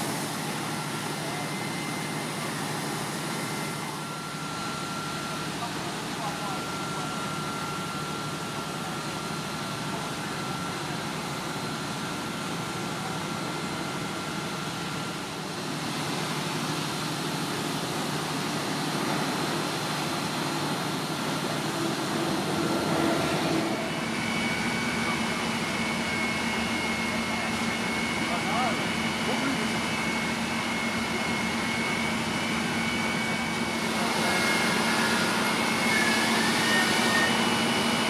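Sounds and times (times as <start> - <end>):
fire engine pumps droning: 0.0 - 38.0.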